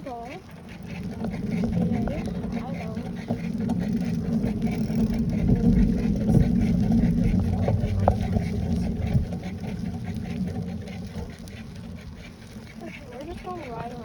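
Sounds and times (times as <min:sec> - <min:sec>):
bicycle rolling noise: 0:00.0 - 0:14.0
small knocks and rattles: 0:00.0 - 0:14.0
wind buffeting microphone: 0:00.0 - 0:14.0.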